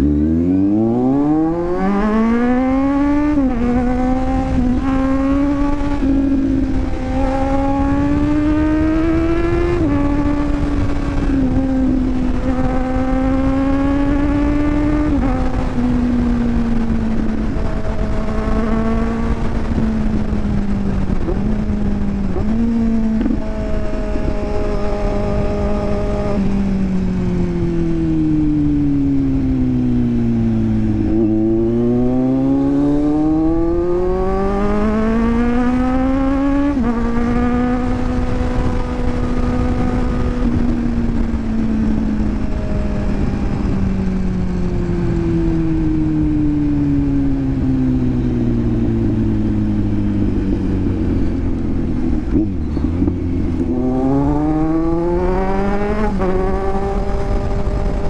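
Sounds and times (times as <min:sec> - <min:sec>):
motorcycle engine revving: 0:00.0 - 0:58.0
wind and road rush: 0:00.0 - 0:58.0.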